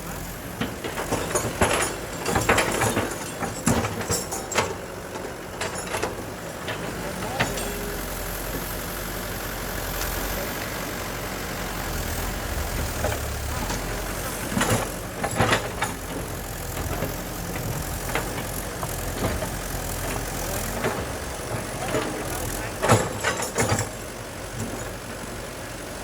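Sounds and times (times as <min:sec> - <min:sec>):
diesel machinery engine rumble: 0:00.0 - 0:26.0.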